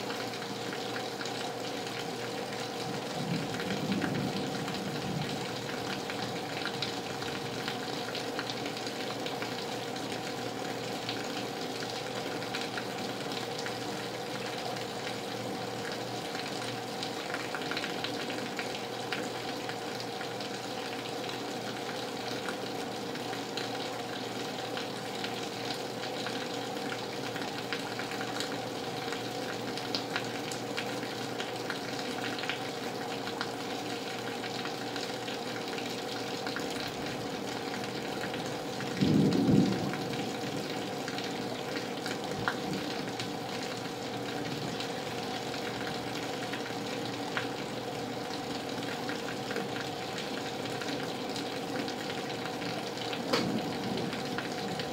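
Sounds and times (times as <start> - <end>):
rain on glass: 0.0 - 54.9.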